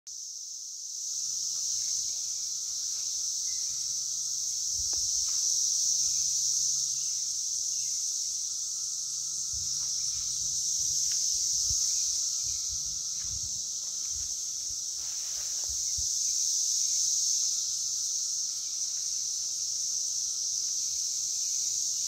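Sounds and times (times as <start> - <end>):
high-pitched insect drone: 0.1 - 22.0.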